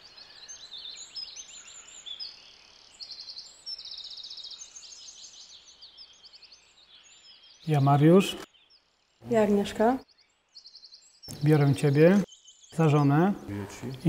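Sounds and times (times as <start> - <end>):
faint outdoor hiss: 0.0 - 14.0
songbirds singing: 0.0 - 14.0.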